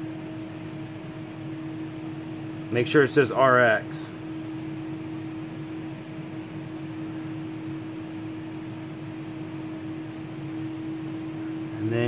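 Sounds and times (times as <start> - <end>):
fans humming: 0.0 - 12.0.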